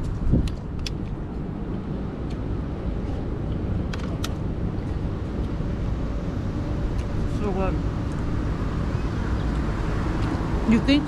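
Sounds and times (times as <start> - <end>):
low rumble of street noise: 0.0 - 11.0.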